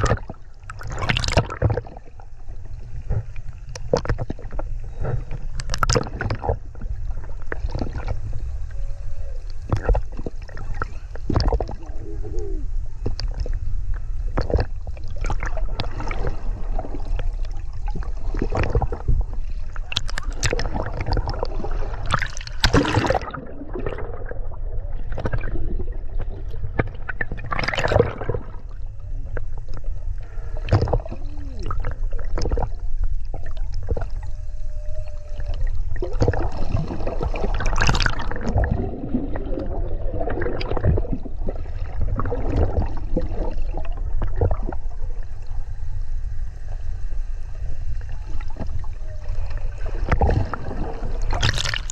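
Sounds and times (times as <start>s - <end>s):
constant low rumble: 0.0s - 51.9s
splashes and bubbles: 0.0s - 51.9s
water sloshing and gurgling: 0.0s - 51.9s.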